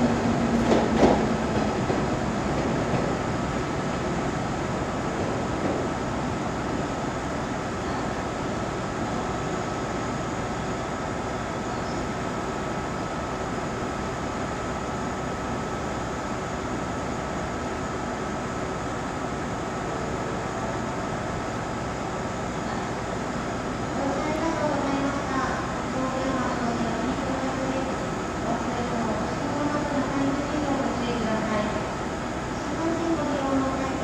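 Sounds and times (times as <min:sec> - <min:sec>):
electric train equipment humming: 0:00.0 - 0:34.0.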